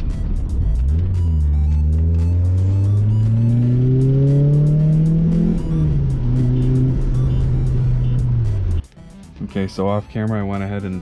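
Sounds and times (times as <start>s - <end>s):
car engine accelerating: 0.0s - 8.9s.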